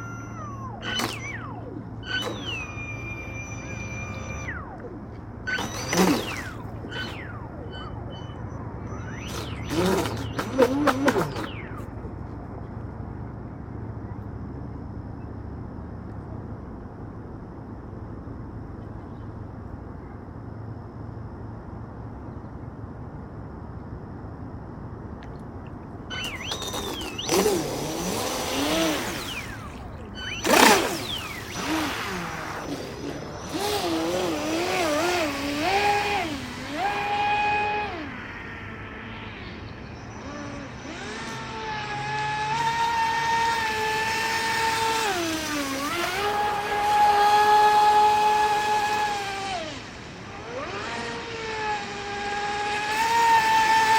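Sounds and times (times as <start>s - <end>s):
faint high whine: 0.0s - 53.9s
low outdoor background noise: 0.0s - 53.9s.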